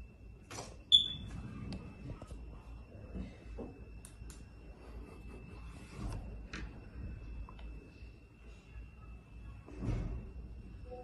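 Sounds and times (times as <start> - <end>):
faint high-pitched whine: 0.0 - 11.0.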